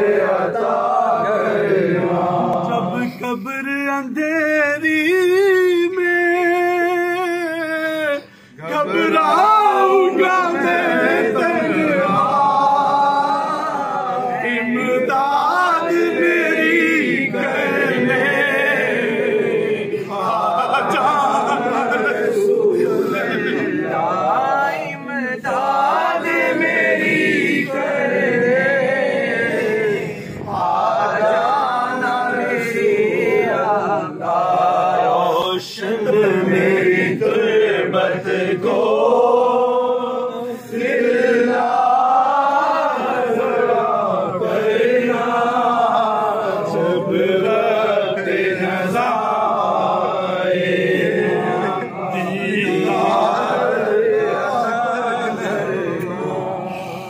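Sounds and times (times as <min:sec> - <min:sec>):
men chanting devotional song: 0:00.0 - 0:57.0.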